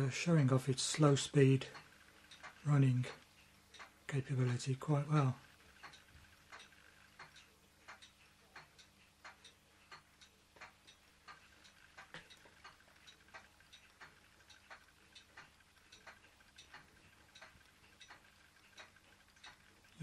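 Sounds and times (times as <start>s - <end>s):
small engine clicking: 0.0s - 20.0s.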